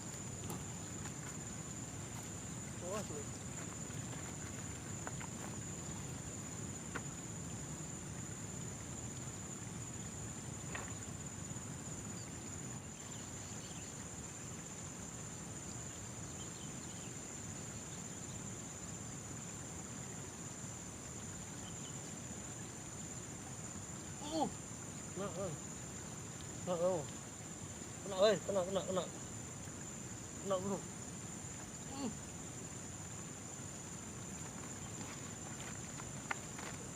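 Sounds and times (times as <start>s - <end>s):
crickets chirring: 0.0s - 36.9s.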